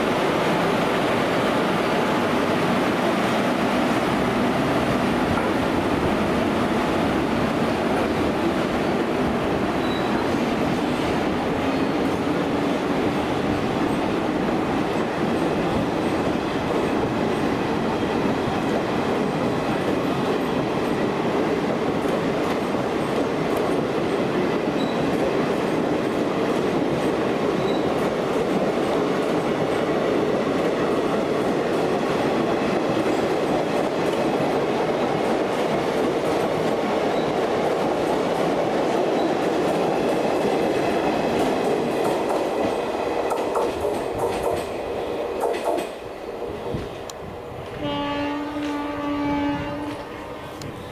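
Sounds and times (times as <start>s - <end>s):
train coaches rumbling past: 0.0s - 50.9s.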